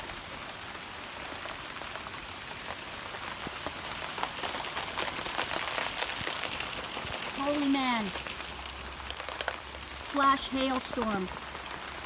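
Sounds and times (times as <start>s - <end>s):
hail striking hard surfaces: 1.2s - 12.0s.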